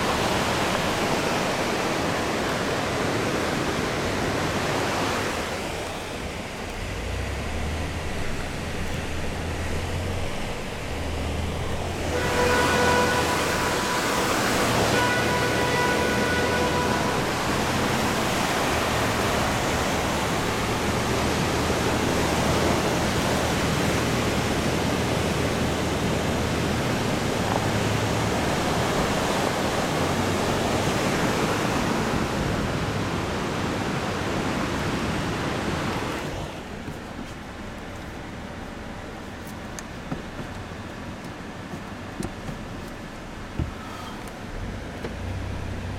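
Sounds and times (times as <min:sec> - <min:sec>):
low engine hum: 0:00.0 - 0:45.9
river rapids rushing: 0:00.0 - 0:45.9.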